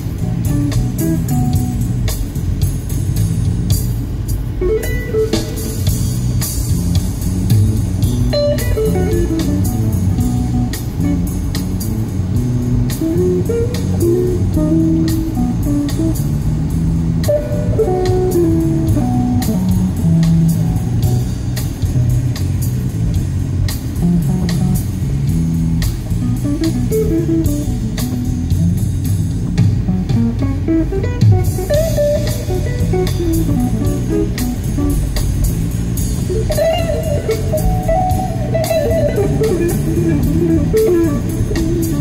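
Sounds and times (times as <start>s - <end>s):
bass guitar: 0.0s - 42.0s
electric guitar melody: 0.0s - 42.0s
light drum beat: 0.0s - 42.0s.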